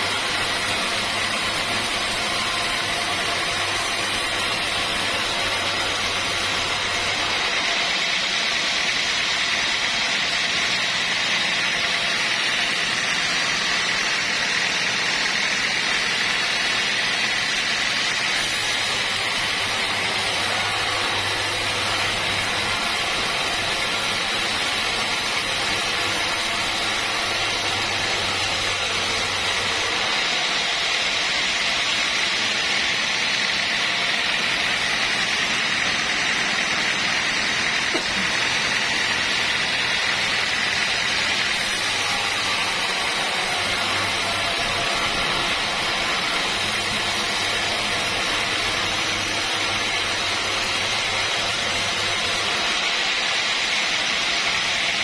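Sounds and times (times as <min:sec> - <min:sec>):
sawmill machine noise: 0:00.0 - 0:55.0.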